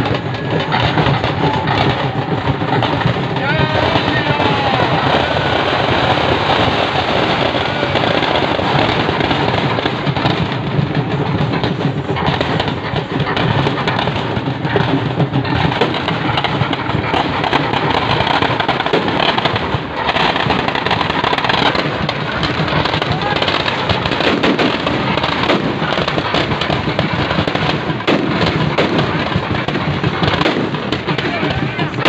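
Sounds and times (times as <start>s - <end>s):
firecrackers and fireworks crackling: 0.0s - 32.0s.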